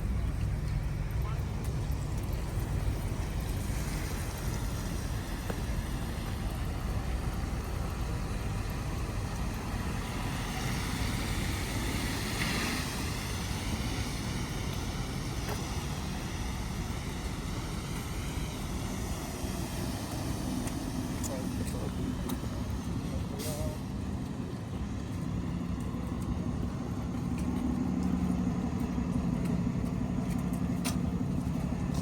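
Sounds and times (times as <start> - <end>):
city traffic rumble: 0.0 - 32.0
tyre hiss on wet pavement: 1.5 - 32.0.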